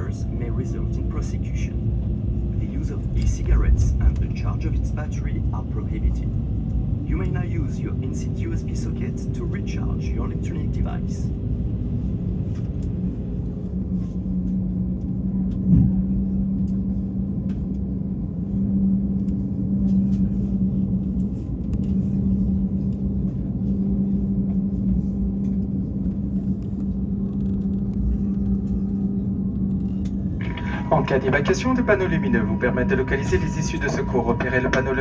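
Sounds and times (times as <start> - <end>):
airliner cabin rumble and hum: 0.0 - 35.0.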